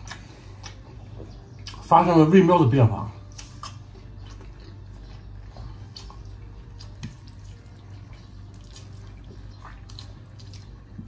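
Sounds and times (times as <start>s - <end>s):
person chewing food: 0.0s - 1.9s, 3.2s - 11.0s
wet mouth sounds: 0.0s - 1.9s, 3.2s - 11.0s
steady low hum: 0.0s - 11.0s.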